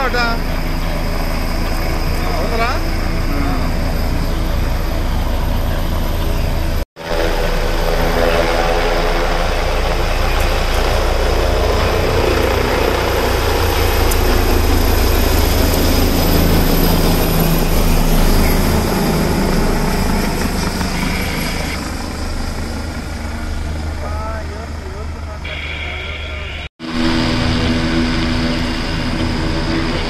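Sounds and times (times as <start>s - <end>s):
helicopter rotor and turbine: 0.0s - 30.0s.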